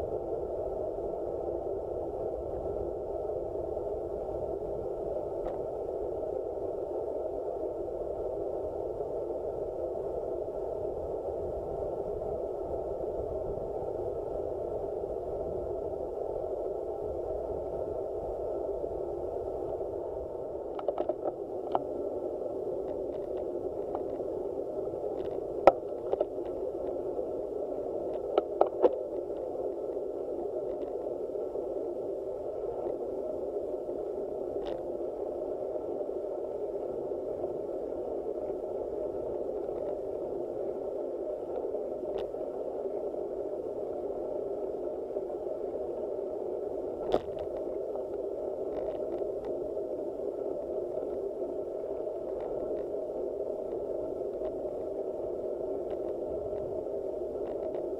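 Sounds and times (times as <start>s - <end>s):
muffled wind rush: 0.0s - 57.9s.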